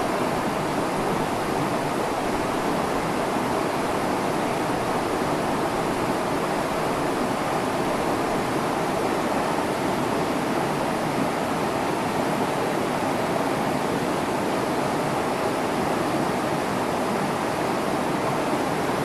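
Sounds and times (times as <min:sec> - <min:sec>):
stream flowing over rocks: 0:00.0 - 0:19.0.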